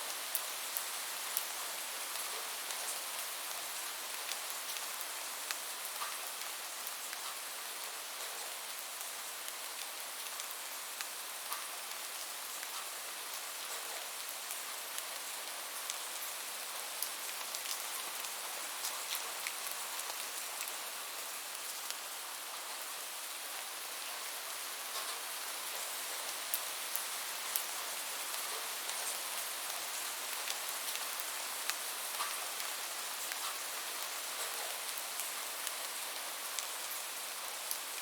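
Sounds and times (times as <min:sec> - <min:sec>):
rain hiss: 0:00.0 - 0:38.0.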